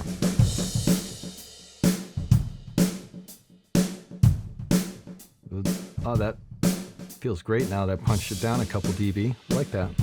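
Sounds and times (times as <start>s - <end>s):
drum groove with filter delay: 0.0s - 10.0s.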